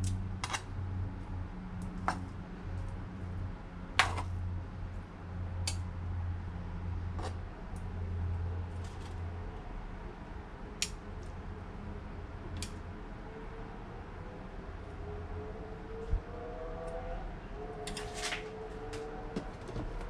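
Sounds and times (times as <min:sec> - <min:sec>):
low steady hum: 0:00.0 - 0:17.8.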